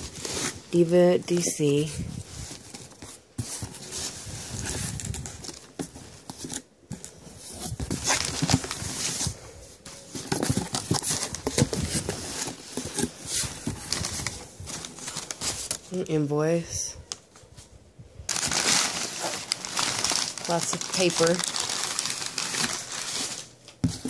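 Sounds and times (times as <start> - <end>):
packing paper rustling: 0.0 - 17.7, 18.3 - 24.0.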